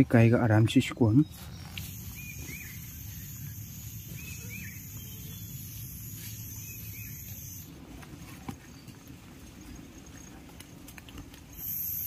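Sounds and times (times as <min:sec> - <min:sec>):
insects droning: 0:01.2 - 0:07.8, 0:08.9 - 0:12.0.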